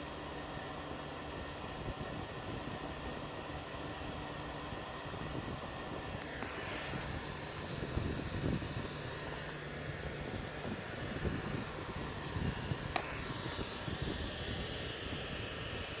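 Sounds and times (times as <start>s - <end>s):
transformer humming: 0.0s - 16.0s.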